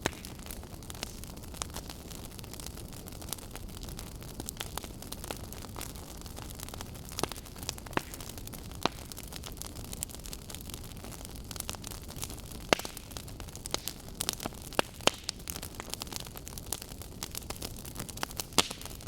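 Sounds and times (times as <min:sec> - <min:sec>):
burning logs crackling and popping: 0:00.0 - 0:19.0.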